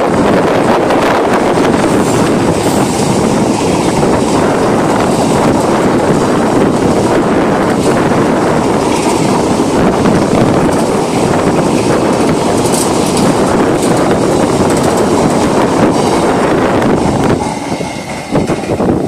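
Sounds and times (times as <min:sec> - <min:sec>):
freight train rumbling past: 0:00.0 - 0:19.0
wheels clattering on rails: 0:00.0 - 0:19.0.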